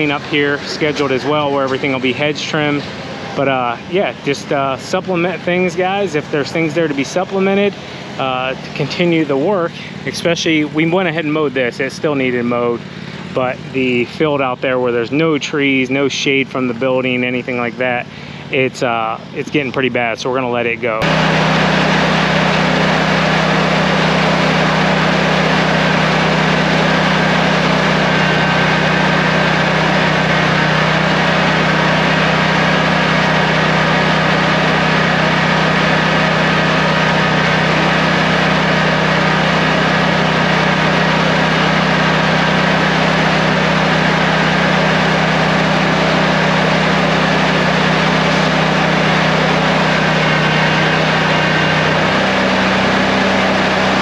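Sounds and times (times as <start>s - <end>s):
mower engine running: 0.0s - 54.0s.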